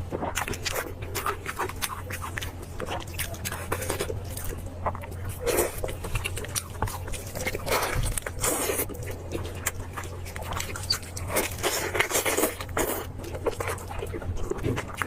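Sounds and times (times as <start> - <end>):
chewing and biting meat: 0.0 - 15.0.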